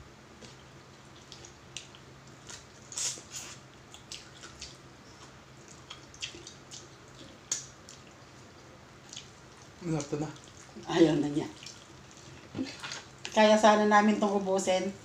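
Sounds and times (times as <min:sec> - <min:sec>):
wet chewing clicks and smacks: 0:00.4 - 0:10.9, 0:11.6 - 0:13.3.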